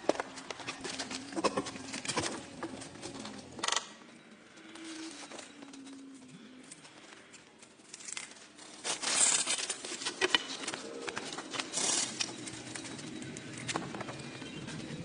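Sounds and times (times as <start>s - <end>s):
rustling handling noises: 0.0s - 3.6s, 4.4s - 15.0s.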